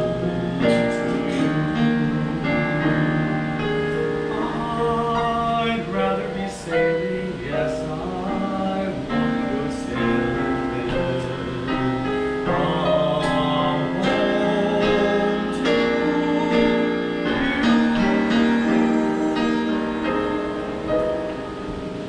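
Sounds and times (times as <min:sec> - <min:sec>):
piano chords ringing: 0:00.0 - 0:22.0.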